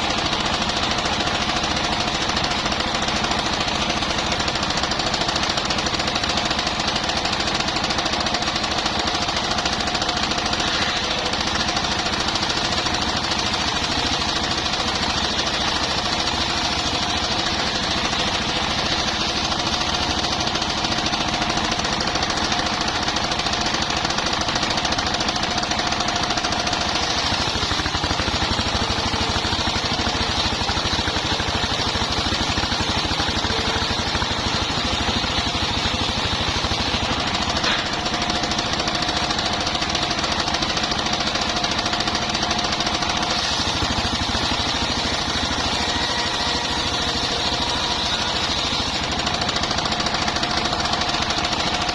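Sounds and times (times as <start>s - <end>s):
saw whine: 0.0s - 51.9s
sawmill engine knocking: 0.0s - 51.9s.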